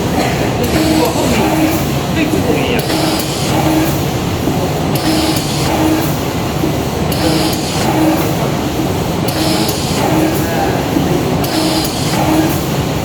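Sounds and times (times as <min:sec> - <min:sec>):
hissy bursts: 0:00.0 - 0:13.0
machine running with cyclic hum: 0:00.0 - 0:13.0.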